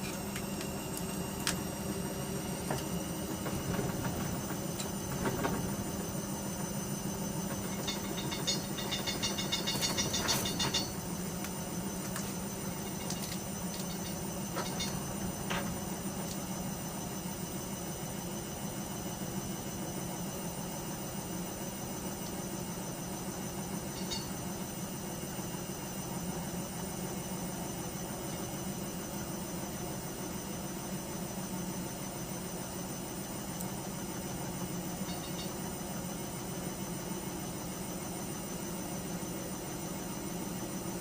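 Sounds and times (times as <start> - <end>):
washing machine motor hum: 0.0 - 41.0.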